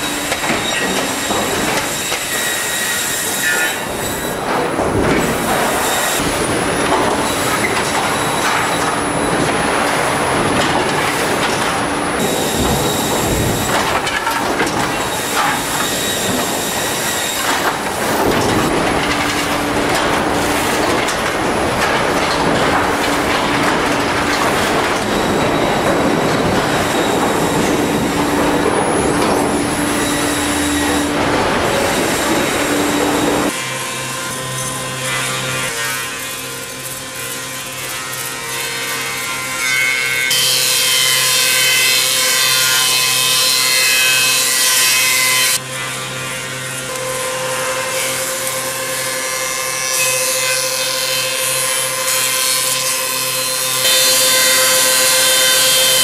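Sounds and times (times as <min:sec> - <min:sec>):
clattering conveyor: 0:00.0 - 0:56.0
wood planer humming: 0:00.0 - 0:56.0.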